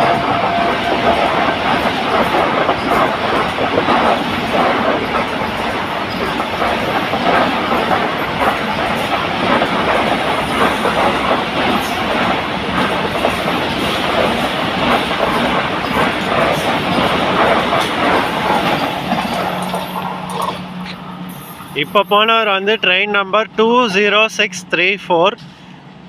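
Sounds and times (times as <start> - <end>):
wheels clattering over rail joints: 0.0 - 22.3
train passing: 0.0 - 26.0.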